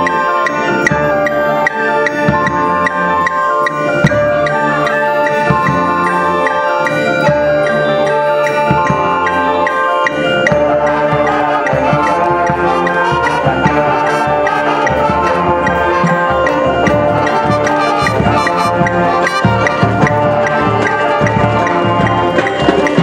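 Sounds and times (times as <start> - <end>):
clarinets and saxophones: 0.0 - 23.0
drums and percussion beat: 0.0 - 23.0
sousaphones and brass: 0.0 - 23.0.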